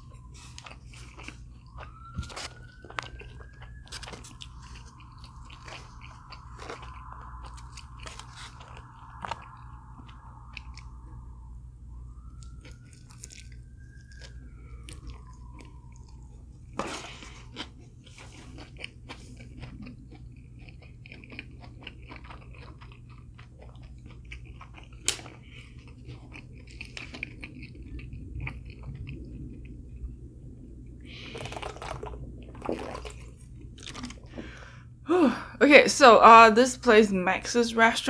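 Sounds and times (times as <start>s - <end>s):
chewing and crunching crispy food: 0.0s - 35.0s
steady low hum: 0.0s - 38.0s.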